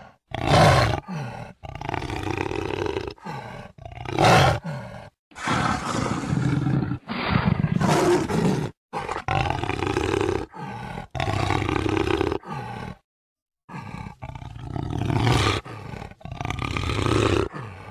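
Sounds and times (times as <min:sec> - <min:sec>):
jaguar roaring: 0:00.3 - 0:04.7, 0:05.4 - 0:13.0, 0:13.7 - 0:17.9.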